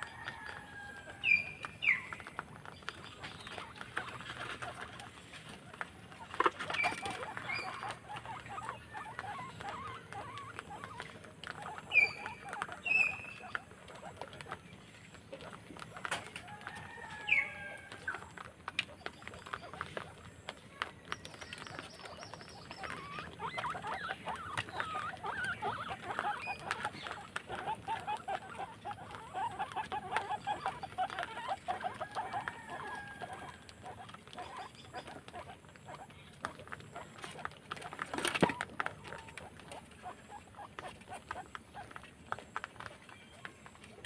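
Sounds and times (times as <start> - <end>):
guinea pigs squeaking: 0.0 - 44.0
small animals chewing food: 0.0 - 44.0.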